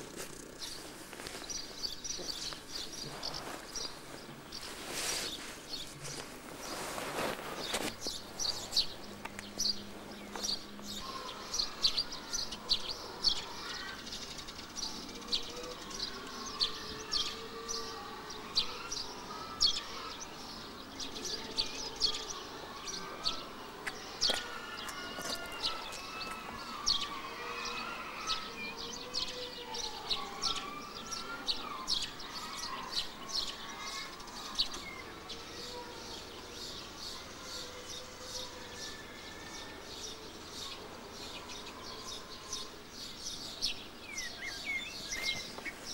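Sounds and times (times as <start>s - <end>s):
low wavering bird calls: 0.0s - 45.9s
small birds chirping: 0.0s - 45.9s.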